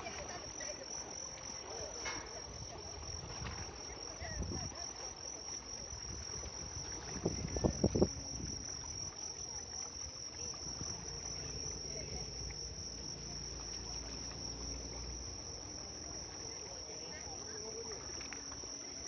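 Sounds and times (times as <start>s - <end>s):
insect chorus trilling: 0.0s - 19.0s
sea waves: 0.0s - 19.0s.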